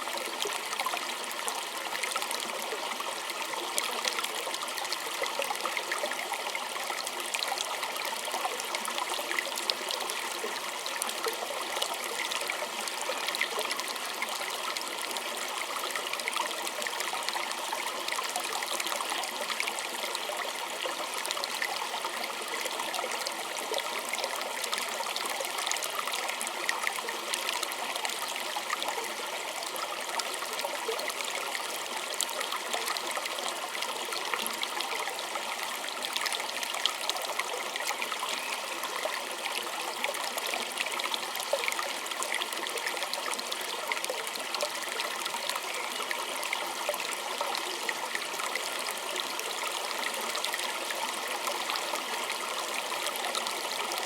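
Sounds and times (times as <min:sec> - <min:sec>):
small stream trickling: 0:00.0 - 0:54.0.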